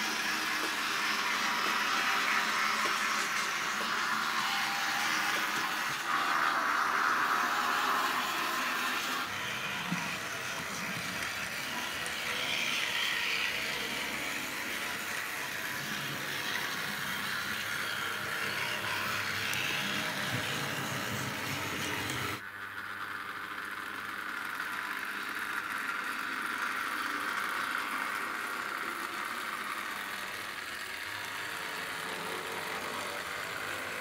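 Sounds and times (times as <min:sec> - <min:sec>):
model tram running on track: 0:00.0 - 0:34.0.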